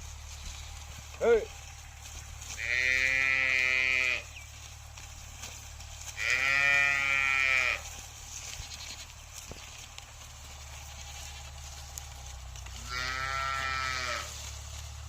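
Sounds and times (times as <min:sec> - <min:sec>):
farm animal calling: 0:00.0 - 0:15.0.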